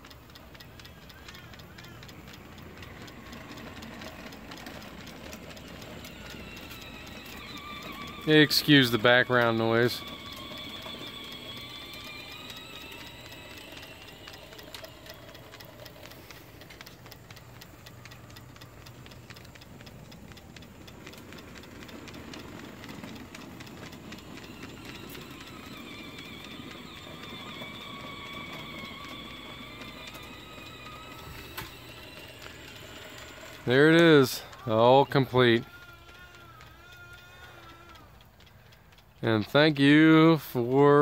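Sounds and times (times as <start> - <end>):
wavering background whine: 0.0 - 36.9
model steam engine ticking: 0.0 - 41.0.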